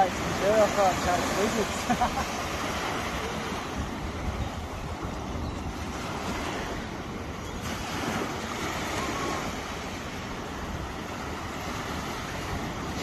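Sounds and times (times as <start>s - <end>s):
small waves washing onto shore: 0.0s - 13.0s
wind rumbling on microphone: 0.0s - 13.0s.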